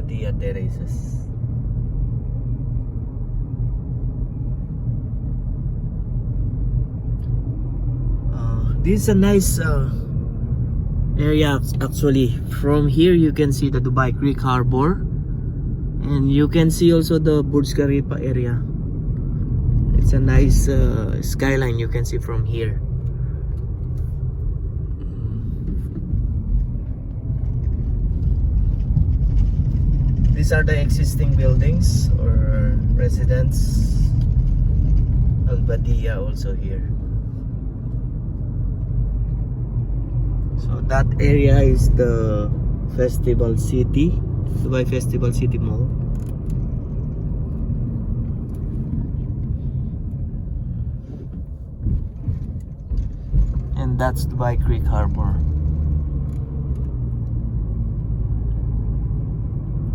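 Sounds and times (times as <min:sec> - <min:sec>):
steady low rumble: 0:00.0 - 0:59.9.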